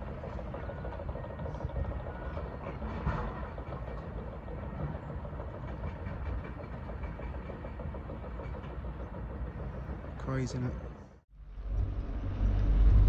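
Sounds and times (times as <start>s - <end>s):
low rumble of engines: 0.0s - 13.0s.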